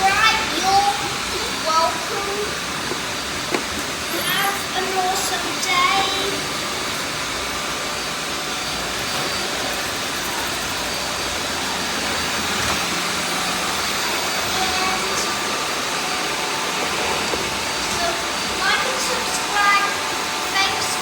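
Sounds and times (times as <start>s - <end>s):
faint high whines: 0.0s - 21.0s
vacuum cleaners running: 0.0s - 21.0s.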